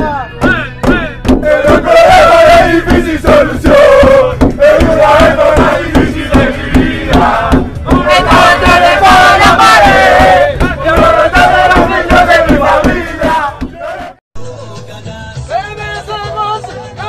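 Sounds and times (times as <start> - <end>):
rhythmic beat: 0.0 - 14.2
men singing and chanting: 0.0 - 17.0.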